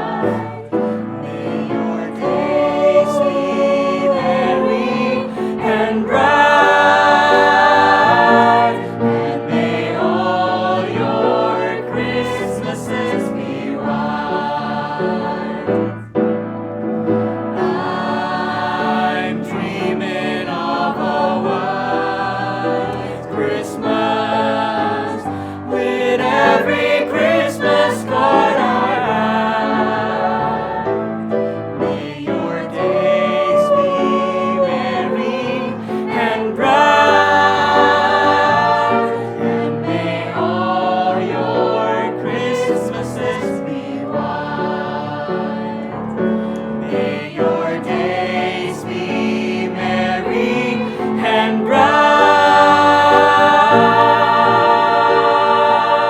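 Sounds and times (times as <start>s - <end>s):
musical accompaniment: 0.0s - 56.0s
vocal group singing in harmony: 0.0s - 56.0s.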